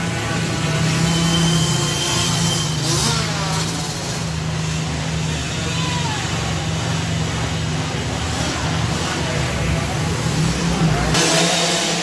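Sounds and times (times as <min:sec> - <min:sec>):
dirt bike engines droning: 0:00.0 - 0:12.0.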